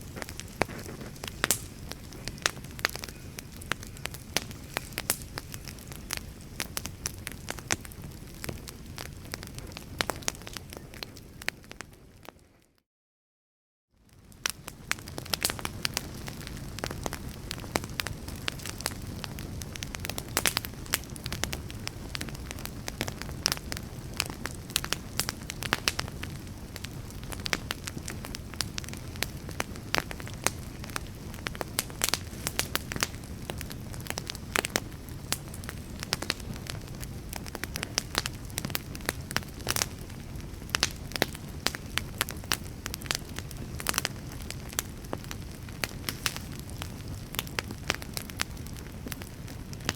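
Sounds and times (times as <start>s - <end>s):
wood fire rumbling: 0.0s - 12.3s, 14.1s - 49.9s
burning logs crackling and popping: 0.0s - 12.7s, 14.0s - 49.9s.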